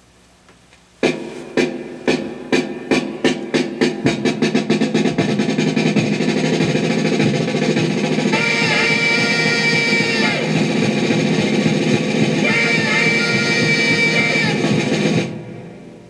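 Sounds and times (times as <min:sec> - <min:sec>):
drum beats and drum roll: 0:01.0 - 0:16.0.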